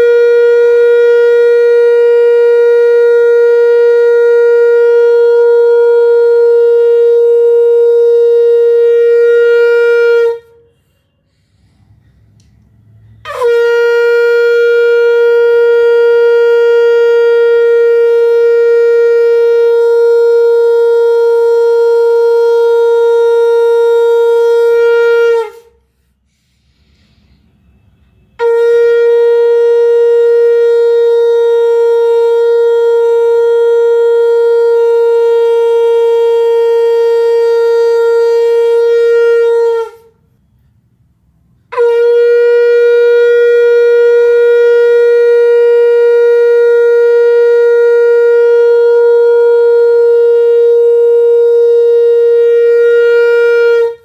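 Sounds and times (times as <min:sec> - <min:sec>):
conch shell blasts: 0:00.0 - 0:11.5, 0:12.6 - 0:26.0, 0:27.2 - 0:40.6, 0:41.5 - 0:54.0.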